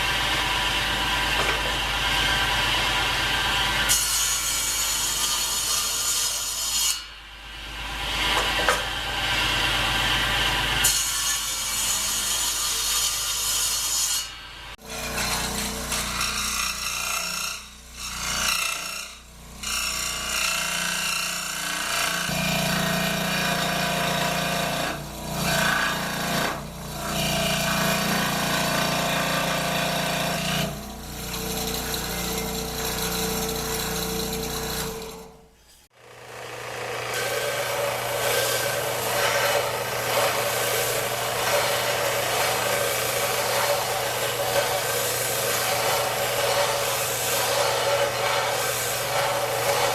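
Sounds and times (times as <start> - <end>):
power saw cutting wood: 0.0 - 49.9.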